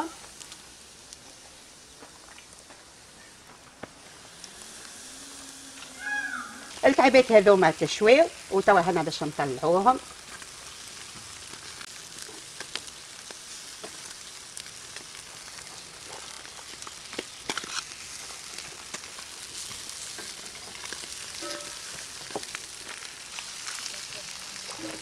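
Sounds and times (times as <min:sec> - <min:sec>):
fish sizzling on grill: 0:00.0 - 0:25.0.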